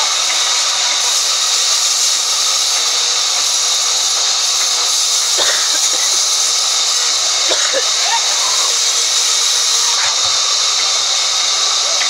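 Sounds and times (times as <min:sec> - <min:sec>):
band saw cutting log: 0:00.0 - 0:12.0.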